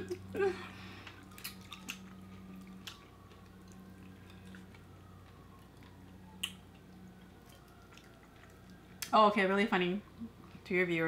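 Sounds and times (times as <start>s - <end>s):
low steady hum: 0.0s - 11.0s
faint chewing: 0.1s - 9.2s.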